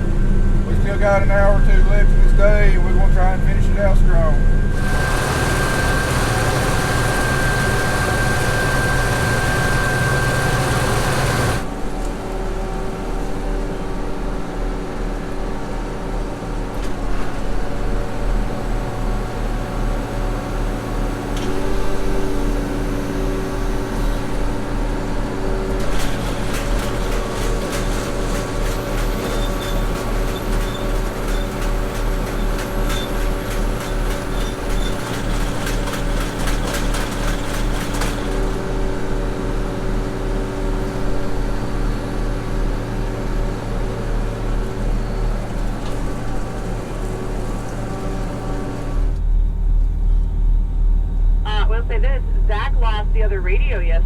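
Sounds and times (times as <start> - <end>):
heavy farm machine engine running: 0.0 - 14.2, 18.0 - 49.7.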